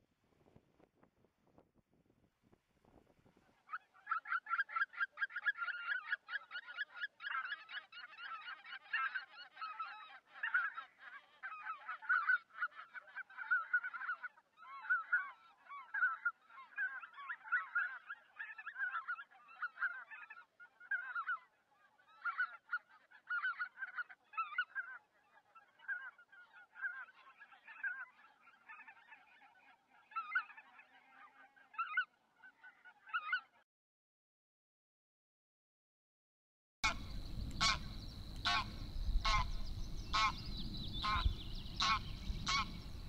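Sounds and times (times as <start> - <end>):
flock of waterbirds calling: 3.7 - 33.6, 36.8 - 43.0.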